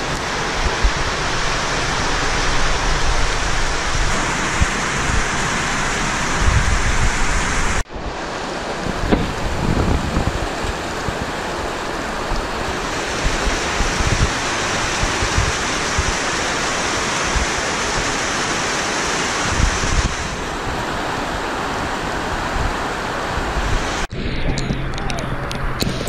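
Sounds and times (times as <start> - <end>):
falling water rushing: 0.0 - 26.0
wind buffeting microphone: 0.0 - 26.0.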